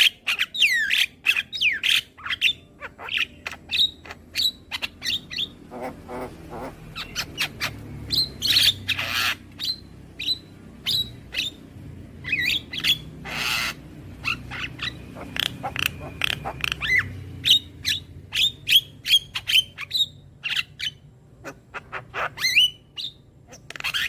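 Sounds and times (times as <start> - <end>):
birds chirping and whistling: 0.0 - 24.0
harsh rasping bird calls: 0.0 - 24.0.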